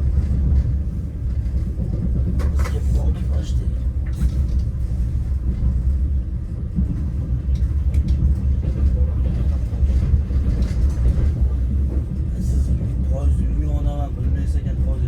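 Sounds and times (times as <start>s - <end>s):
train carriage rumbling on track: 0.0s - 15.0s.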